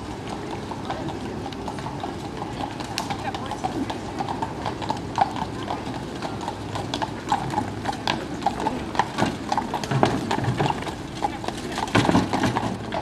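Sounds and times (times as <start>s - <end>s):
horse hooves clip-clopping: 0.0s - 13.0s.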